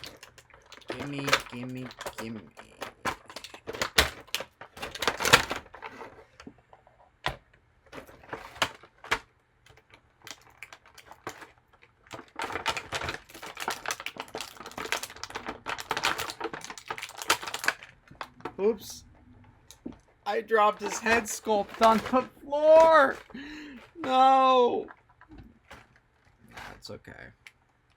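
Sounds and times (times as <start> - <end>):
plastic packaging crinkling: 0.0 - 6.6, 7.9 - 27.9.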